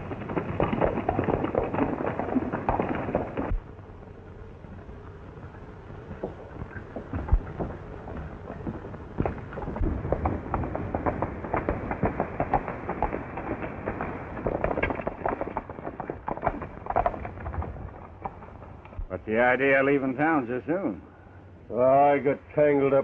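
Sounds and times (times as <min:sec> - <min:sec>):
horse hoofbeats on hard ground: 0:00.0 - 0:19.1
film soundtrack hiss: 0:00.0 - 0:23.0.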